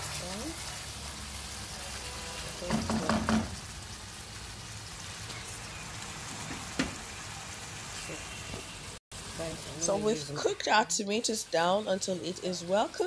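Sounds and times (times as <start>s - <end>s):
sauce sizzling in pan: 0.0s - 13.0s.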